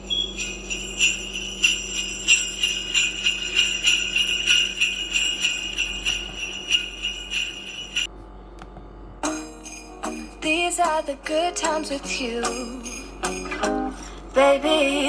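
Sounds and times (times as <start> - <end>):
small sleigh bells shaking: 0.0 - 8.1, 9.3 - 15.0.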